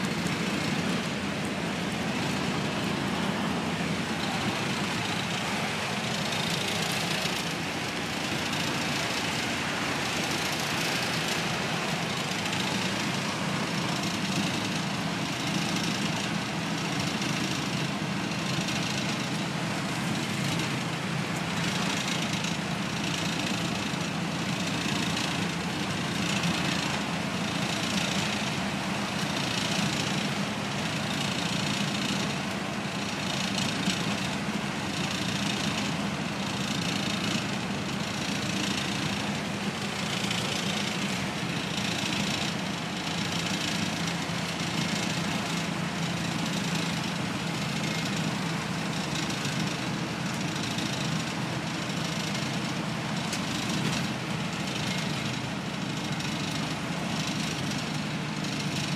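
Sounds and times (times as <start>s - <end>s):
bus diesel engine drone: 0.0s - 58.9s
road and wind noise: 0.0s - 58.9s.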